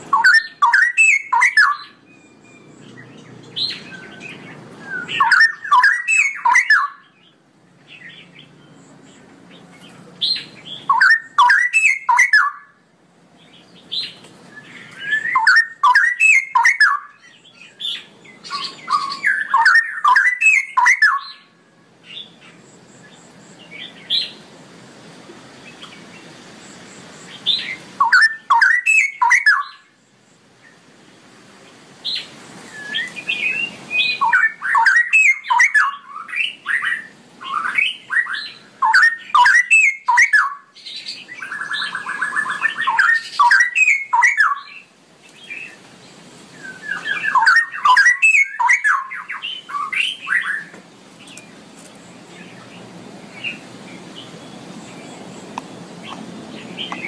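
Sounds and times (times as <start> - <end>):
bird singing warbling phrases: 0.0 - 24.5, 25.6 - 57.0.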